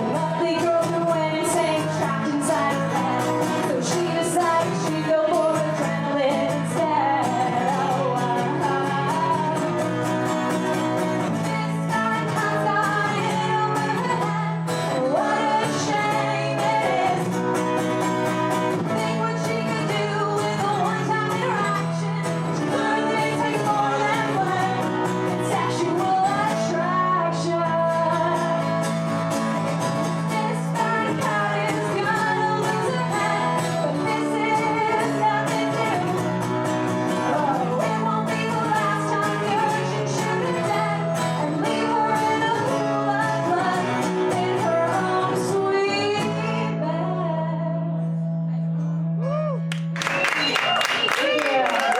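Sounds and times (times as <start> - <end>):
person singing: 0.0 - 10.0, 10.7 - 17.5, 18.8 - 28.8, 30.2 - 36.5, 37.1 - 48.6
guitar: 0.0 - 51.9.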